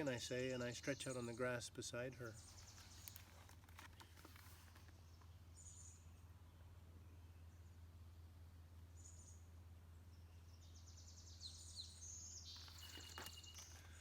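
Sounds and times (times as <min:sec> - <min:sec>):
faint birdsong: 0:00.0 - 0:14.0
low steady hum: 0:00.0 - 0:14.0.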